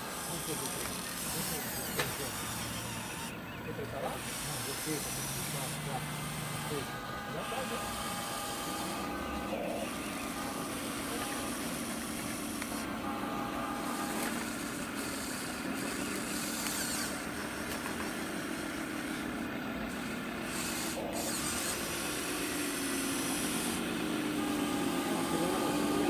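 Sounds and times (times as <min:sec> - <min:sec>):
toy trucks mechanical hum: 0:00.0 - 0:26.0.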